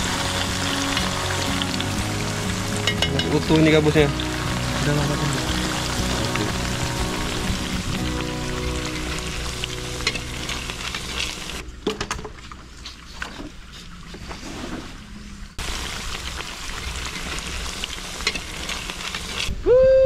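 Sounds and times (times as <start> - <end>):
food deep-frying in hot oil: 0.0 - 13.1, 15.6 - 19.8.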